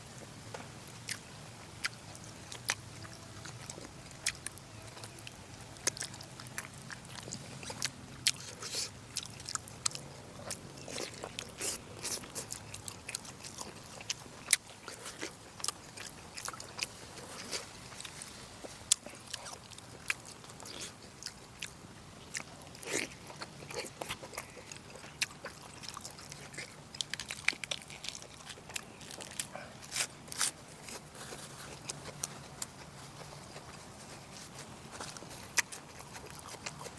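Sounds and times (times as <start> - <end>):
person chewing food: 0.2 - 36.9.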